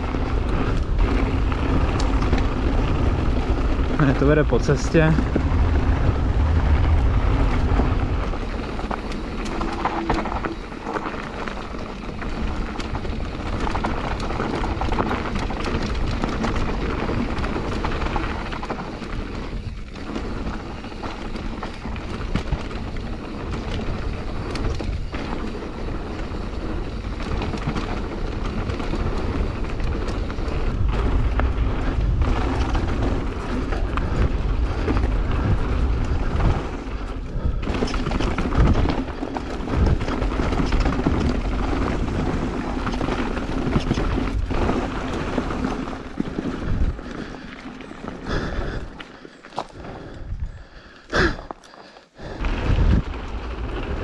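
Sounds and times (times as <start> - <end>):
wind buffeting microphone: 0.0 - 49.0, 49.8 - 51.5, 52.2 - 54.0
bike clattering over bumps: 0.0 - 50.1
tyres on dirt and gravel: 0.0 - 54.0.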